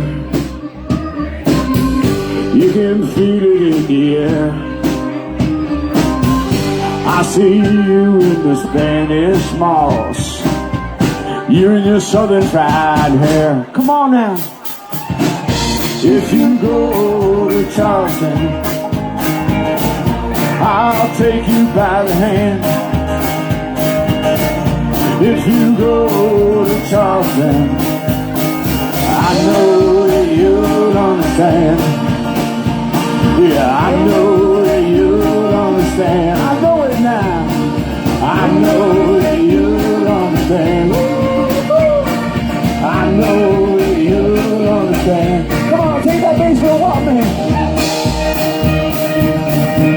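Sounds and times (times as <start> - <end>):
live band playing: 0.0 - 49.9
steady drum beat: 0.0 - 49.9.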